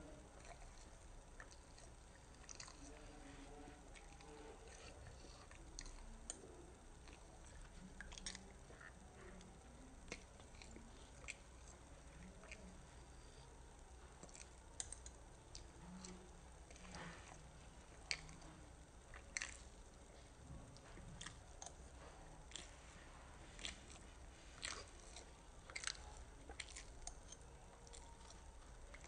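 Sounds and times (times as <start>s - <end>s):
child chewing: 0.0s - 29.0s.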